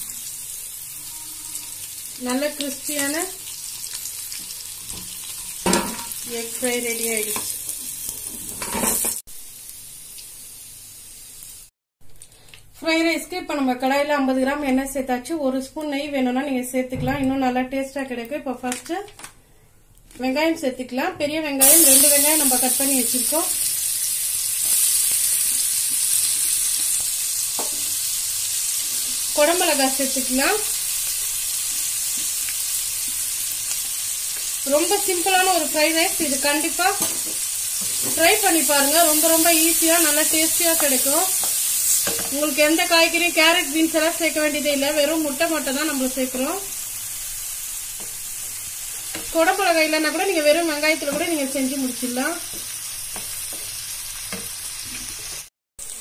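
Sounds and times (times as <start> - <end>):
food sizzling in hot oil: 0.0 - 11.7, 21.6 - 56.0.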